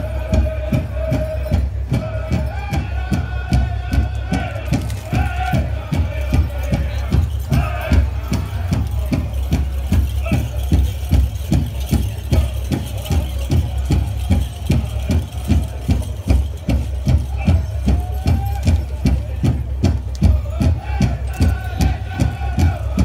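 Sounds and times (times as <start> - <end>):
drum beaten steadily: 0.0 - 23.0
faint singing: 0.0 - 23.0.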